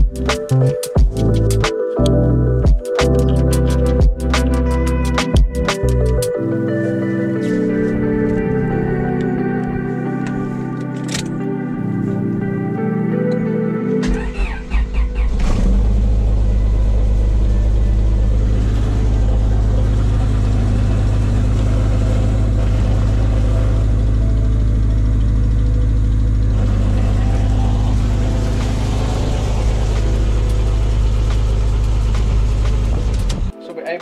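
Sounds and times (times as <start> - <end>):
car engine idling: 2.5 - 12.5, 13.4 - 33.5.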